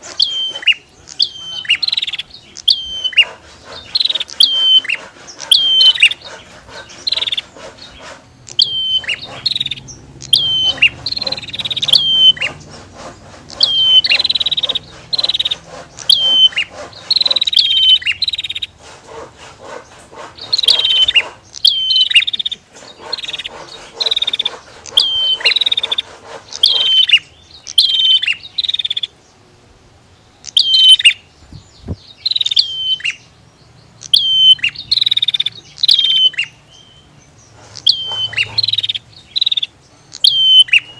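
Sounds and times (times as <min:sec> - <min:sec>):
bird high chirps: 0:00.0 - 0:29.4, 0:30.1 - 0:40.9.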